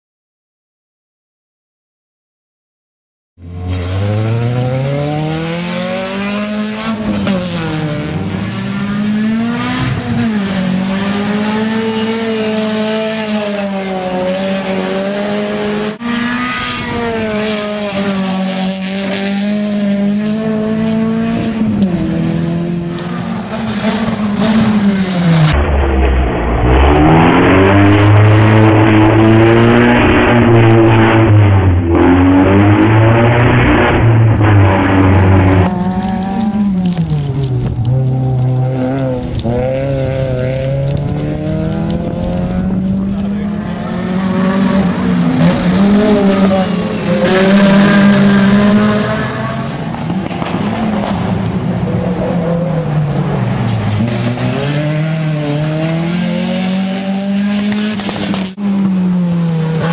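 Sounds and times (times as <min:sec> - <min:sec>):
rally car engine at full throttle: 0:03.4 - 0:59.9.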